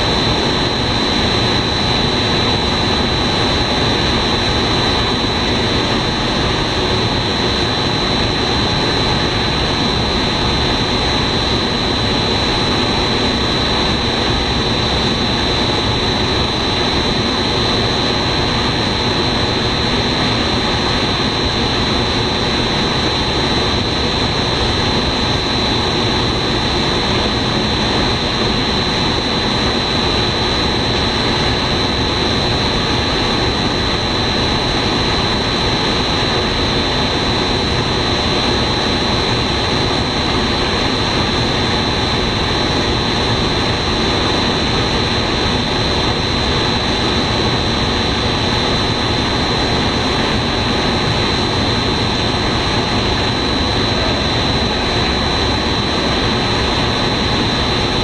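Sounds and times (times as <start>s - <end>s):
machines running with high whine: 0.0s - 58.0s.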